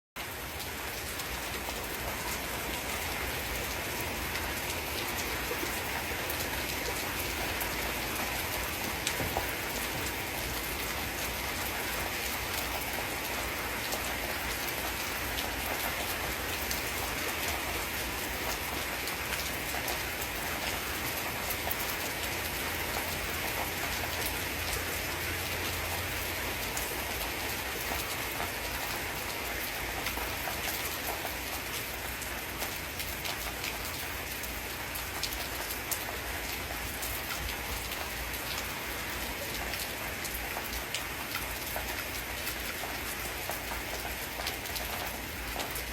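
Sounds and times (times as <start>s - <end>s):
rain falling: 0.2s - 45.9s.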